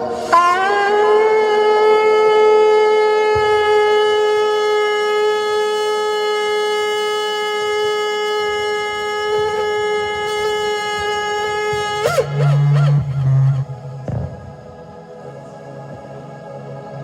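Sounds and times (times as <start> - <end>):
ram's horn blast: 0.0 - 14.5.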